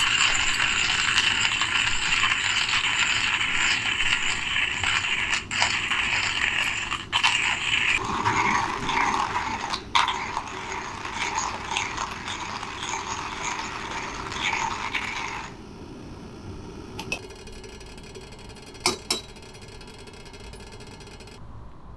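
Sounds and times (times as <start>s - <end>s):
camping stove hissing: 0.0s - 20.1s.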